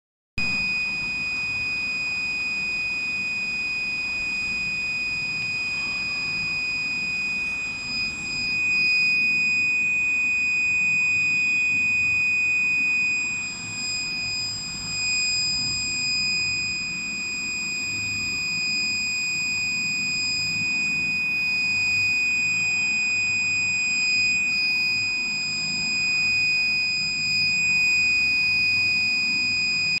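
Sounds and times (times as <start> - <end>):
piezo buzzer high-pitched tone: 0.4 - 30.0.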